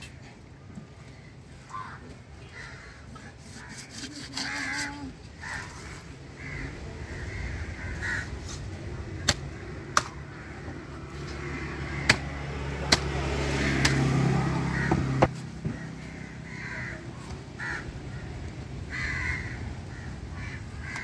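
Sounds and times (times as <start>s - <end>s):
traffic rumble: 0.0s - 21.0s
crows cawing: 1.0s - 8.6s, 9.2s - 21.0s.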